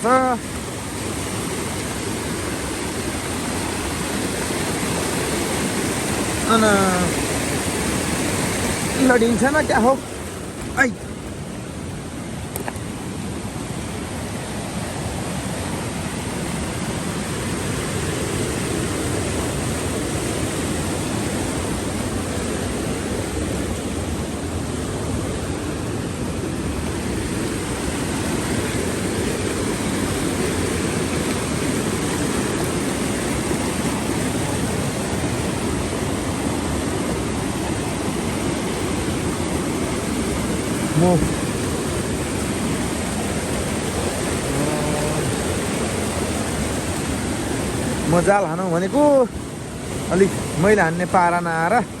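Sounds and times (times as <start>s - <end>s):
river water roaring: 0.0s - 52.0s.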